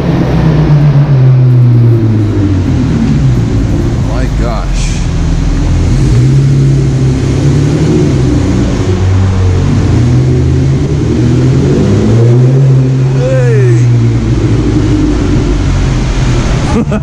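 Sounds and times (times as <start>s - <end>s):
car engine at low speed: 0.0s - 17.0s.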